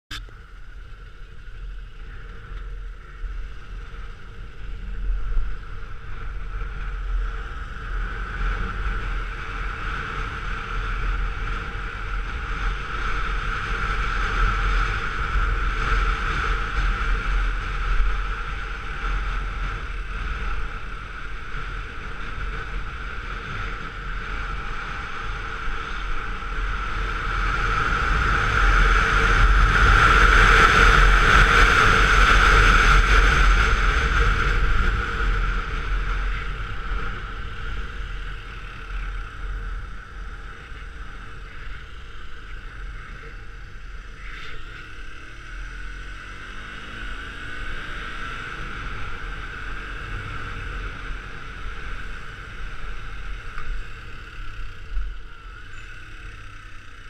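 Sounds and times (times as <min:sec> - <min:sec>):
wind rushing over microphone: 0:00.1 - 0:55.6
motorcycle engine running: 0:00.1 - 0:57.0.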